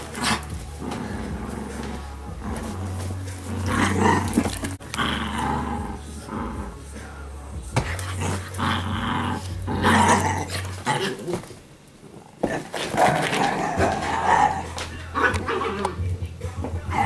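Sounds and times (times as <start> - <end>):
dogs growling while play-fighting: 0.0 - 17.0.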